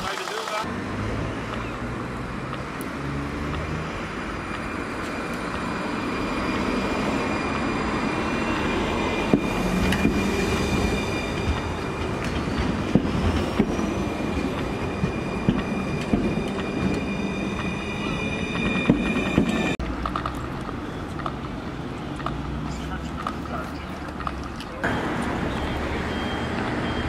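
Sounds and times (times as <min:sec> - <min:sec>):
tram high whine: 0:00.0 - 0:27.0
wheels rumbling on rails: 0:00.0 - 0:27.0.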